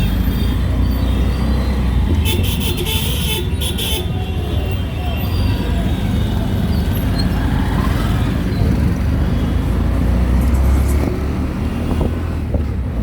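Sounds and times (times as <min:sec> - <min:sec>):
auto-rickshaw engine rumble: 0:00.0 - 0:13.0
street traffic noise: 0:00.0 - 0:13.0.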